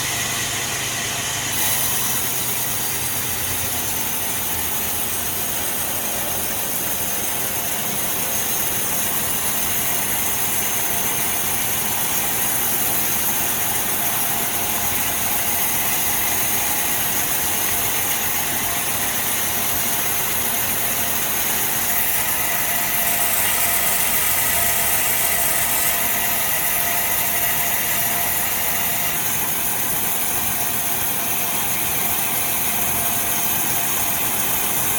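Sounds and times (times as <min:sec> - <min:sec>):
sawmill machinery drone: 0:00.0 - 0:34.9.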